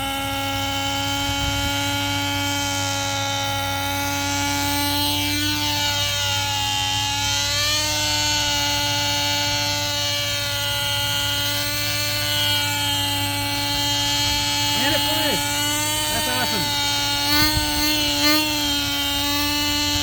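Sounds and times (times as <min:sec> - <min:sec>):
model helicopter engine buzzing: 0:00.0 - 0:20.0.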